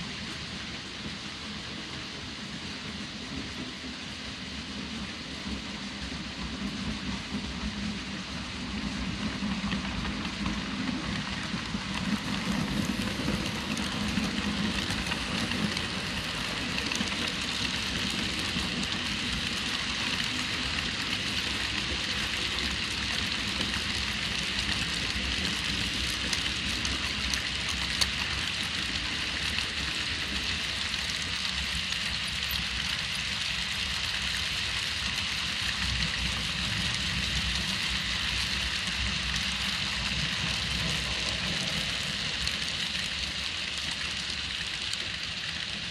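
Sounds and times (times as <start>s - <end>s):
model train cars rattling on rails: 0.0s - 45.9s.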